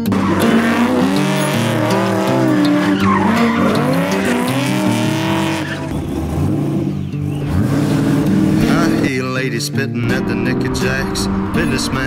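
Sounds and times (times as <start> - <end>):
tyres squealing and skidding: 0.0 - 9.2, 10.0 - 12.0
car engine running hard: 0.0 - 9.4, 10.0 - 12.0.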